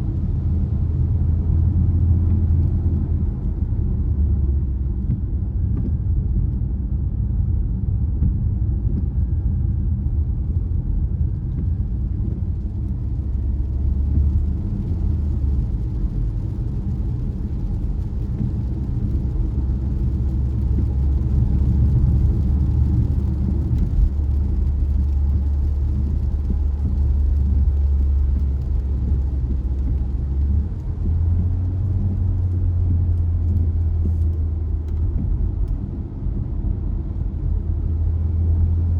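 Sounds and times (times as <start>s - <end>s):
car engine and tyre drone: 0.0s - 38.9s.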